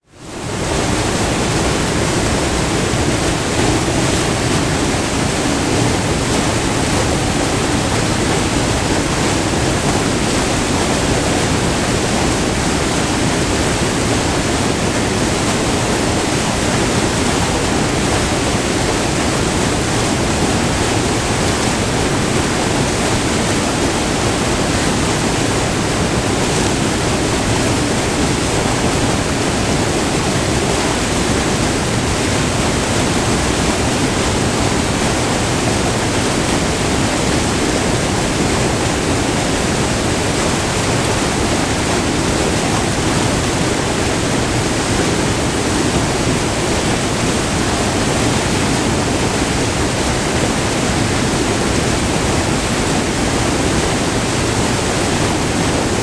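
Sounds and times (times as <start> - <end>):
waterfall rushing: 0.1 - 56.0.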